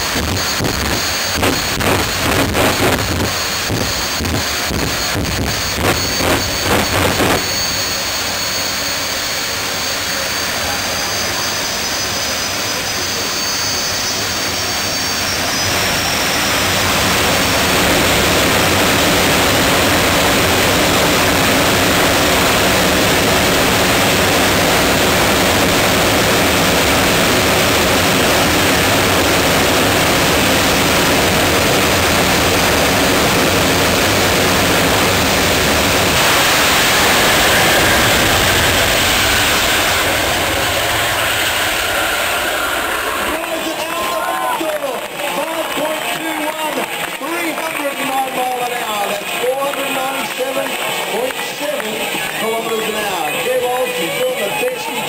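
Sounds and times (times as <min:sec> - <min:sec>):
jet turbine engine roaring: 0:00.0 - 0:55.0.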